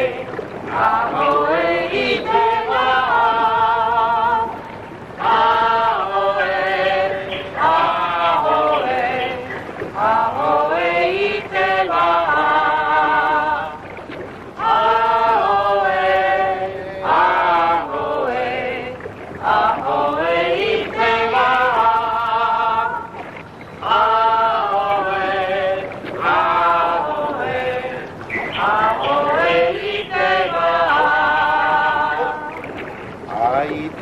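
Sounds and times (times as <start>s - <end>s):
choir singing in harmony: 0.0s - 4.6s, 5.2s - 13.8s, 14.6s - 23.1s, 23.8s - 32.7s.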